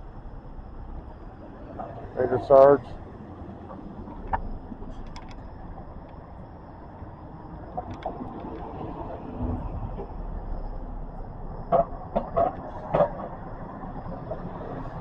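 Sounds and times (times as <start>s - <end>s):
street traffic rumbling: 0.0s - 15.0s
vehicle engine: 0.0s - 15.0s.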